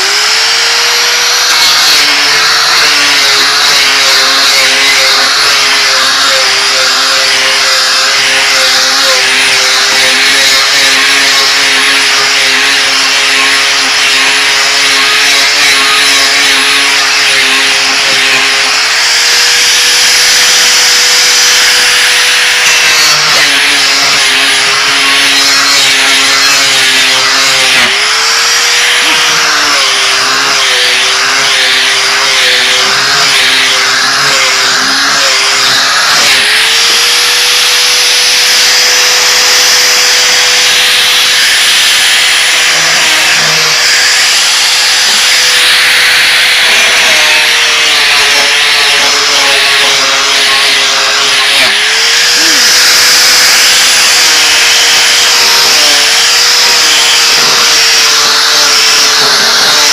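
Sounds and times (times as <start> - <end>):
grinder sanding wood: 0.0 - 59.9.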